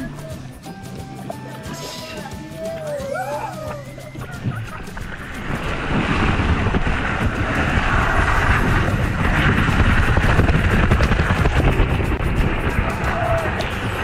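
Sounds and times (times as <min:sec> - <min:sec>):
water rushing and splashing: 0:00.0 - 0:14.0.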